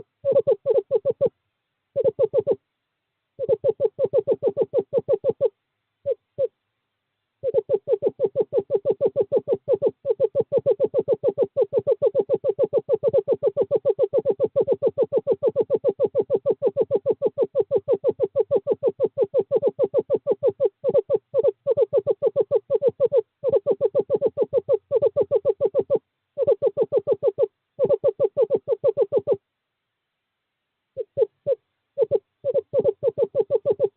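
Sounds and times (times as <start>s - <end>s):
screech owl trill: 0.0s - 1.3s, 2.0s - 2.6s, 3.4s - 6.5s, 7.4s - 29.4s, 31.0s - 33.9s.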